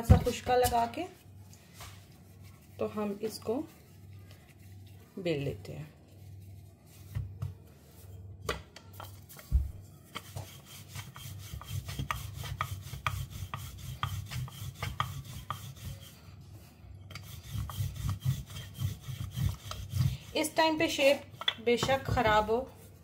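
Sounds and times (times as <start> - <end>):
rolling pin rolling dough: 0.0 - 23.0.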